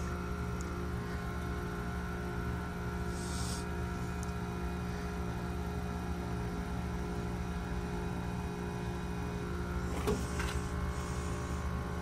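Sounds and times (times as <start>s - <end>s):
heat pump compressor humming: 0.0s - 12.0s.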